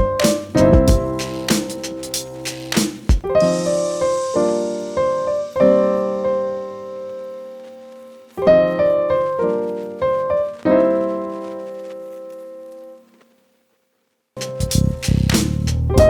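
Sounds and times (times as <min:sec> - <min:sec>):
soft piano music: 0:00.0 - 0:13.1, 0:14.4 - 0:16.0.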